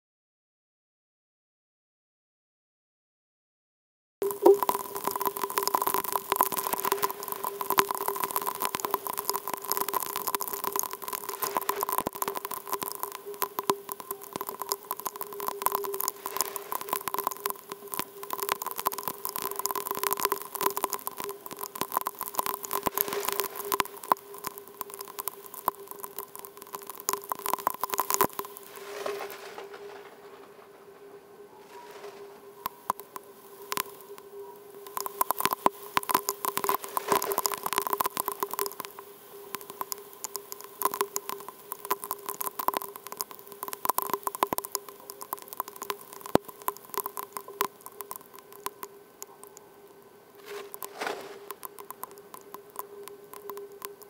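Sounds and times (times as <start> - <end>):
sped-up raindrops crackling: 4.2 - 31.1, 31.7 - 54.0.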